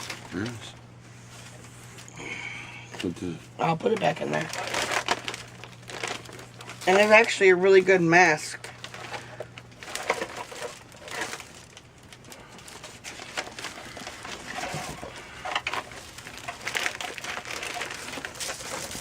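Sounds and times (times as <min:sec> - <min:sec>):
paper and plastic crinkling: 0:00.0 - 0:02.1, 0:02.9 - 0:19.0.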